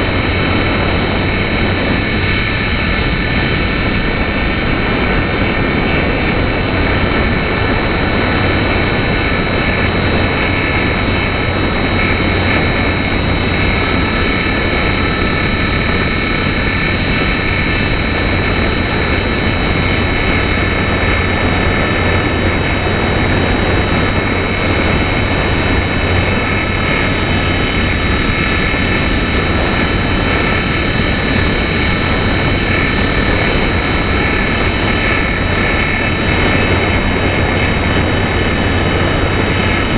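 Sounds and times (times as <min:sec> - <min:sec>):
model plane motor whine: 0:00.0 - 0:39.9
rush of noise: 0:00.0 - 0:39.9.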